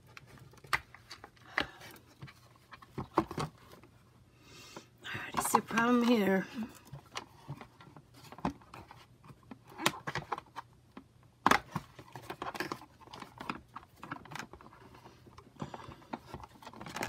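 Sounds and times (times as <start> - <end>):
cardboard packaging rustling: 0.0 - 4.1, 5.1 - 10.8, 11.5 - 17.0.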